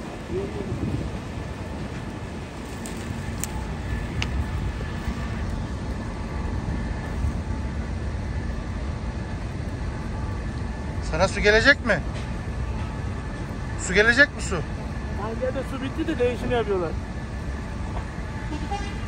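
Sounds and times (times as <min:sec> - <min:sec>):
fire crackles: 0:00.0 - 0:19.0
fire engine motors running: 0:00.0 - 0:19.0
low rumble of fire: 0:00.0 - 0:19.0.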